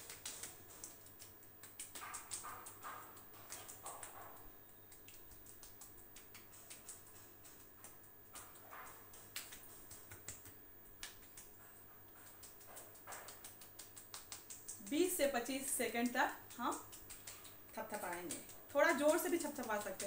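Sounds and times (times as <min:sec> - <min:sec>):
fingertips tapping skin: 0:00.0 - 0:20.0.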